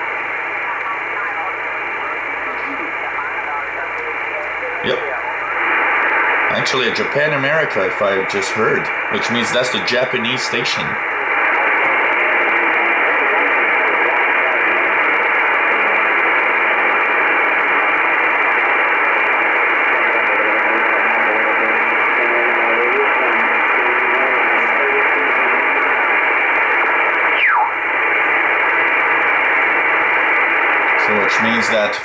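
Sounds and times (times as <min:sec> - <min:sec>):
weak radio voice: 0:00.0 - 0:27.2, 0:28.1 - 0:32.0
radio band noise hiss: 0:00.0 - 0:32.0.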